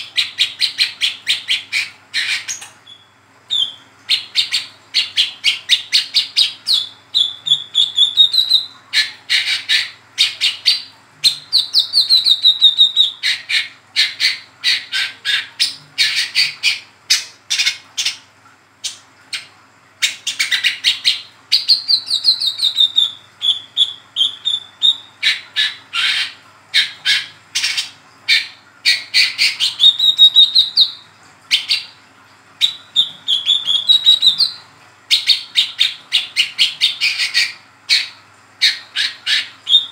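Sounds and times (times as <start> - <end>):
bird twittering song: 0.0 - 18.2, 18.8 - 31.9, 32.6 - 39.9.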